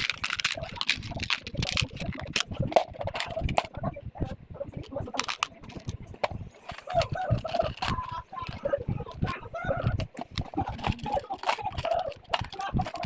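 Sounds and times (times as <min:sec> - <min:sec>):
toys clicking and tapping: 0:00.0 - 0:03.8, 0:04.8 - 0:13.0.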